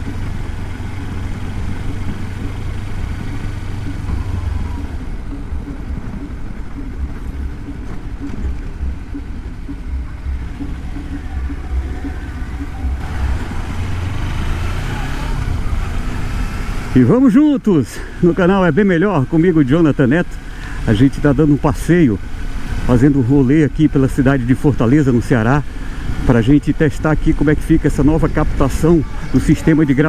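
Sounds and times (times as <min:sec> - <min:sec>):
motorcycle engine running: 0:00.0 - 0:30.0
wind and road rumble: 0:00.0 - 0:30.0.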